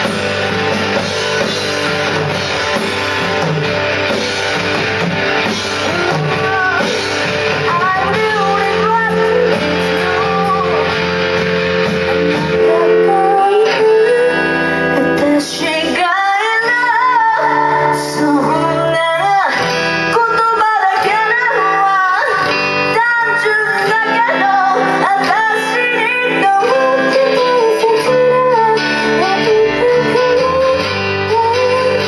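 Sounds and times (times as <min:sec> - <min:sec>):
guitar: 0:00.0 - 0:32.0
woman singing: 0:04.8 - 0:32.0.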